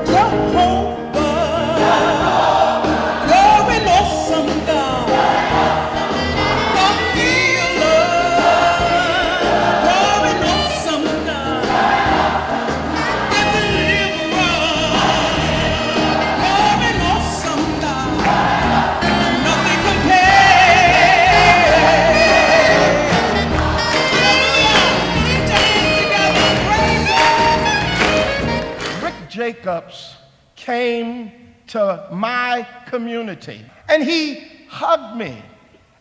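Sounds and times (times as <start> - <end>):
choir singing: 0.0 - 29.2
instrumental accompaniment: 0.0 - 29.4.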